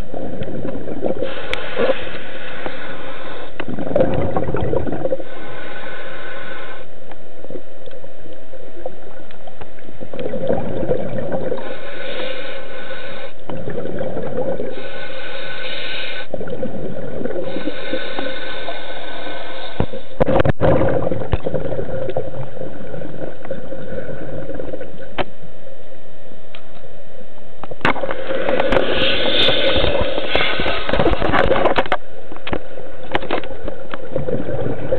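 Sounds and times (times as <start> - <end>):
muffled underwater water noise: 0.0 - 34.9
steady low hum: 0.0 - 34.9.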